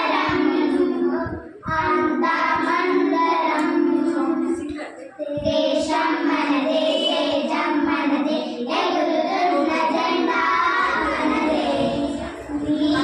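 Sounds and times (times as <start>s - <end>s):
girls singing together: 0.0s - 13.0s.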